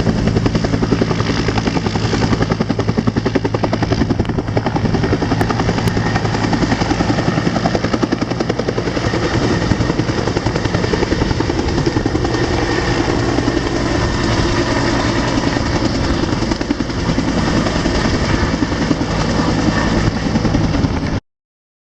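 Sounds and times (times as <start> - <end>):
helicopter rotor beating: 0.0 - 21.2.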